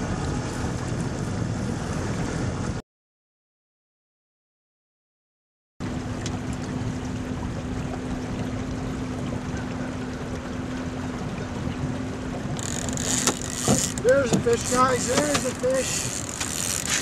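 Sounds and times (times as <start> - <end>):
outboard motor running: 0.0 - 2.8, 5.8 - 17.0
water noise: 0.0 - 2.8, 5.8 - 17.0
wind: 0.0 - 2.8, 5.8 - 17.0.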